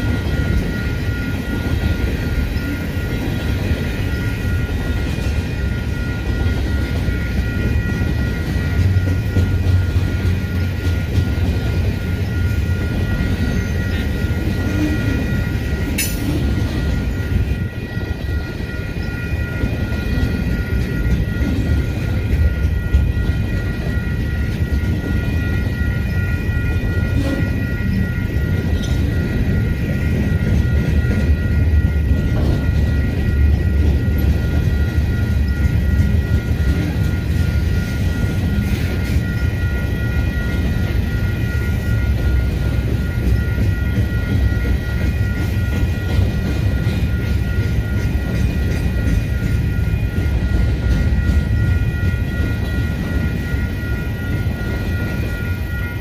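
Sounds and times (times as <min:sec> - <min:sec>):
freight train wheels rumbling: 0:00.0 - 0:56.0
steady high-pitched tones: 0:00.0 - 0:56.0.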